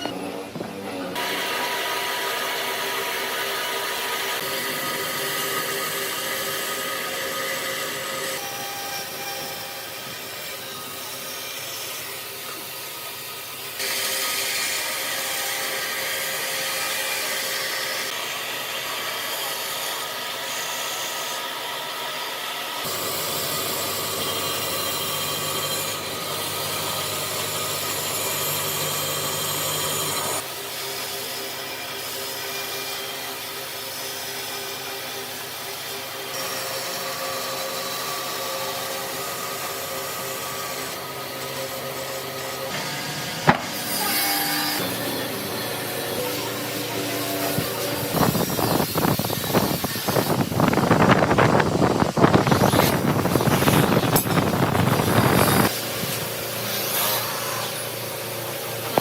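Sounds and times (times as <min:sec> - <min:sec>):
power tool whining on wood: 0:00.0 - 0:59.0.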